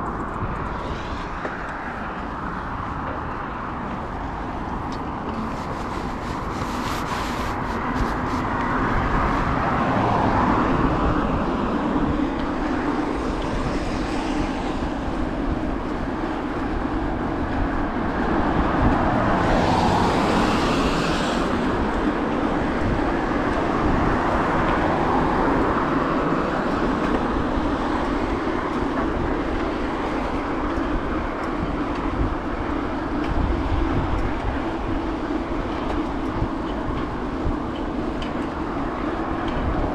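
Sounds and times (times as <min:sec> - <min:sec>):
cars passing: 0:00.0 - 0:39.9
road noise: 0:00.0 - 0:39.9.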